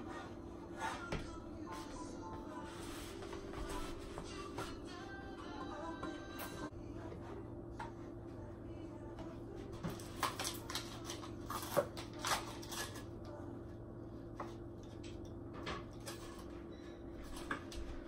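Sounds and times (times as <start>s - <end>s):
low appliance hum: 0.0s - 18.0s.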